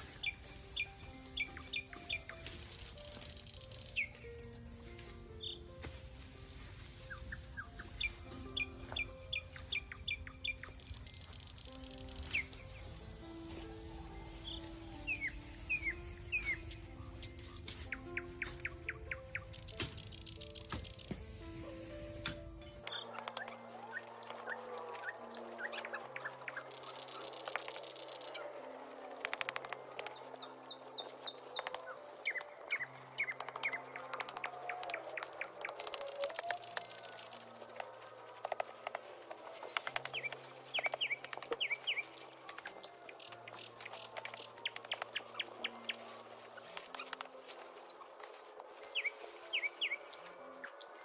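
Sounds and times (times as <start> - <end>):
birds chirping: 0.0 - 51.0
soft background music: 0.0 - 51.0.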